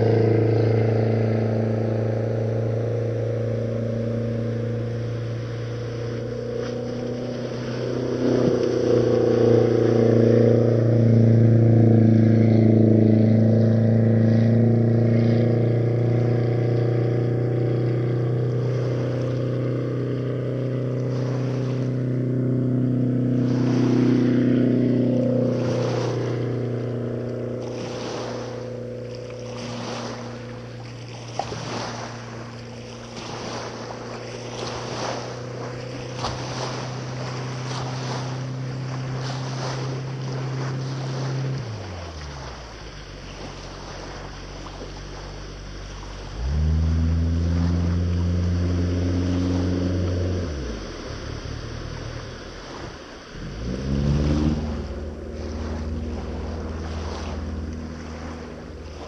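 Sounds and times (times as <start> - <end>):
motorboat engine idling: 0.0 - 59.0
second engine running: 0.0 - 59.0
water slapping against hull: 0.0 - 59.0.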